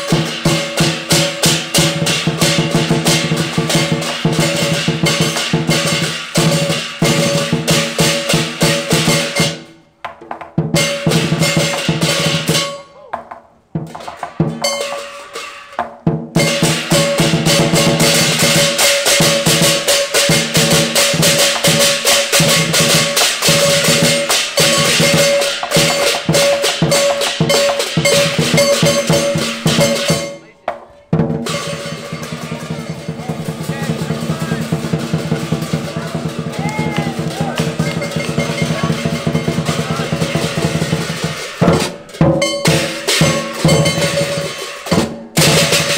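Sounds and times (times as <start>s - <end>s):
hand cymbals clashing: 0.0s - 9.8s, 10.7s - 13.0s, 13.8s - 45.9s
drum beaten with sticks: 0.0s - 45.9s.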